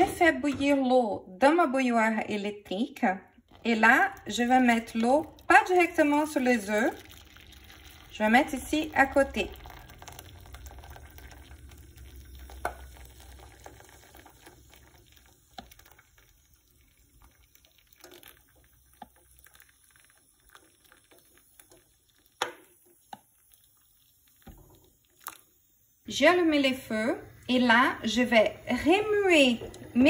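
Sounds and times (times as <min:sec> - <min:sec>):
water pouring into a saucepan: 0:03.5 - 0:30.0.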